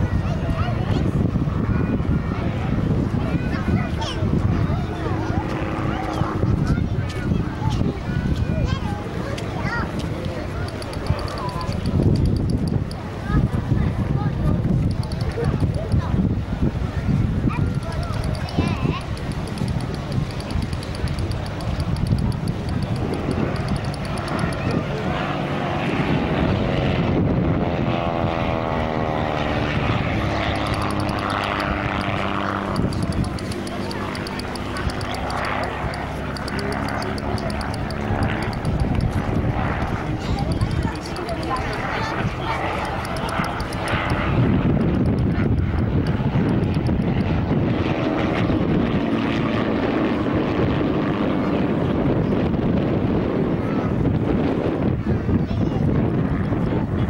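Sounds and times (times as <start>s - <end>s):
propeller plane flying past: 0.0s - 57.0s.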